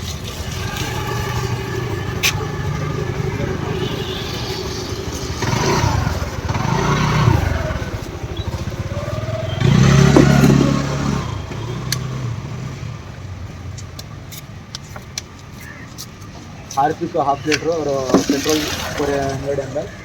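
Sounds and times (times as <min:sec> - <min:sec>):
vehicle engine: 0:00.0 - 0:20.0.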